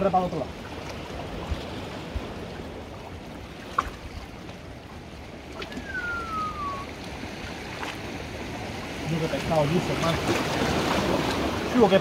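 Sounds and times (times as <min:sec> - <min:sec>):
sea surf on rocky shore: 0:00.0 - 0:12.0.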